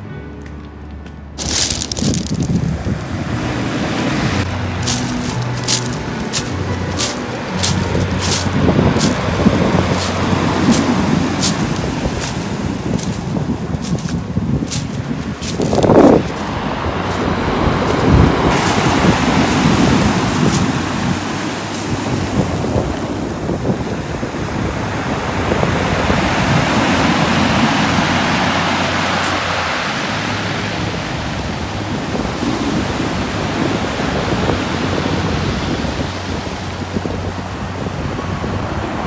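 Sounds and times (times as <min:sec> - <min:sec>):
surf over pebble beach: 0:01.4 - 0:39.0
wind buffeting microphone: 0:01.4 - 0:39.0.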